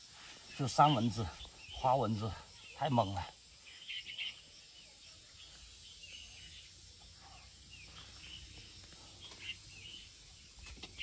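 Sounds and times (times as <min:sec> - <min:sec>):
faint outdoor ambience: 0:00.0 - 0:11.0
soft bird chirps: 0:00.0 - 0:11.0.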